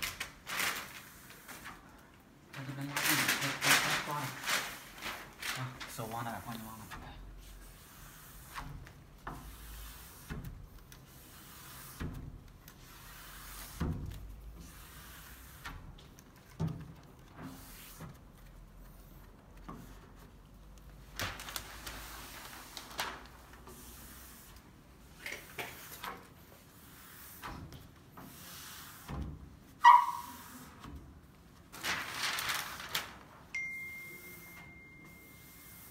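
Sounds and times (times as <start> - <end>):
squeegee scraping film on glass: 0.0 - 33.2.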